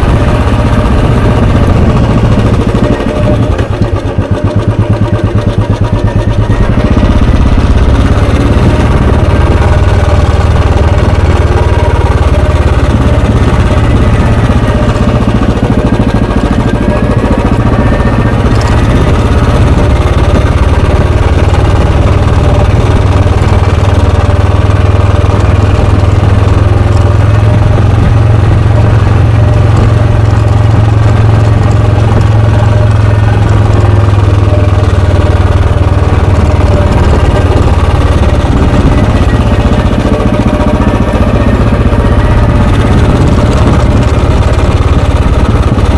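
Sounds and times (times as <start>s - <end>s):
motorcycle engine exhaust: 0.0s - 45.9s.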